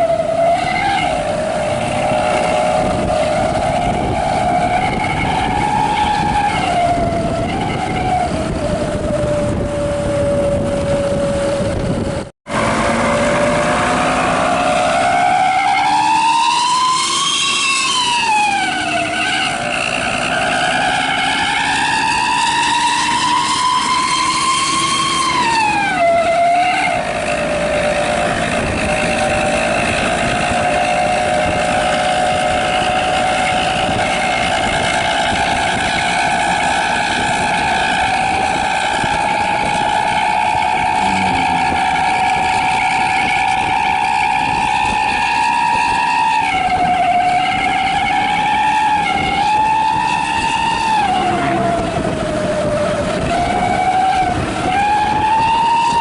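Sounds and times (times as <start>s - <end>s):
bus exhaust whistling howl: 0.0s - 56.0s.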